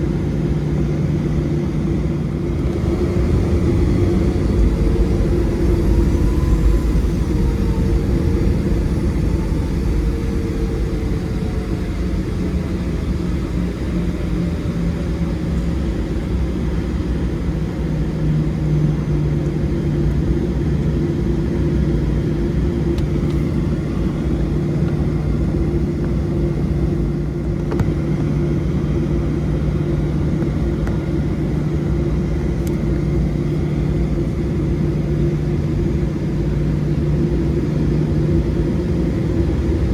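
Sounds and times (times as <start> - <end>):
low hum: 0.0 - 28.0, 30.4 - 39.9
jet engine cabin drone: 0.0 - 39.9.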